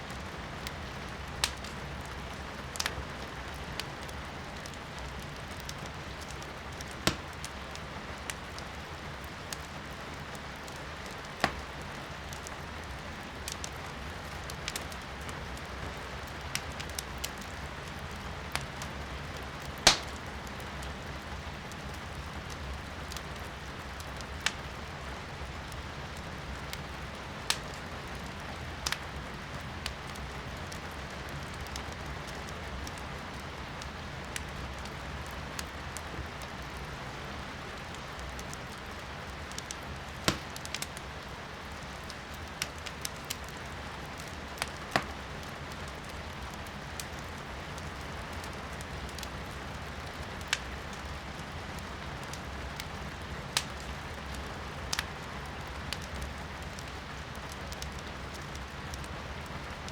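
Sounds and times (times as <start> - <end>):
firewood crackling and popping: 0.0 - 59.9
rain heard from indoors: 0.0 - 59.9.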